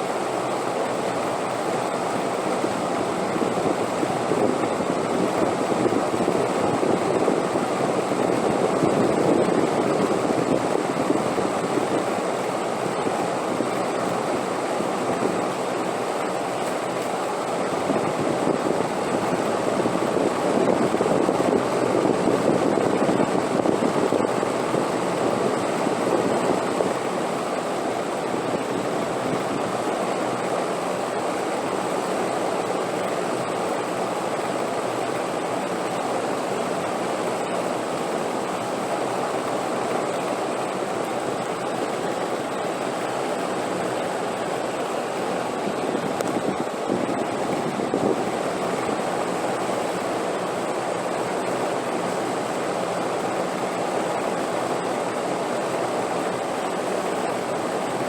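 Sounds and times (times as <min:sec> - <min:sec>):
rushing wind: 0:00.8 - 0:58.0.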